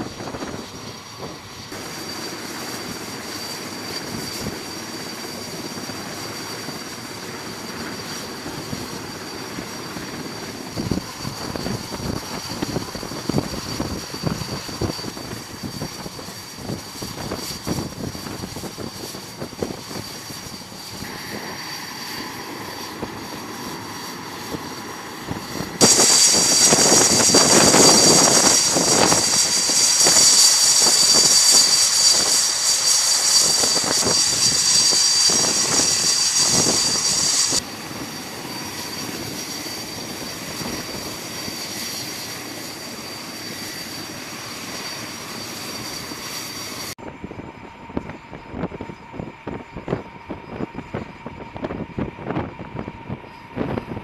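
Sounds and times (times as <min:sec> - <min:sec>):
jet engine idling: 0:00.0 - 0:54.0.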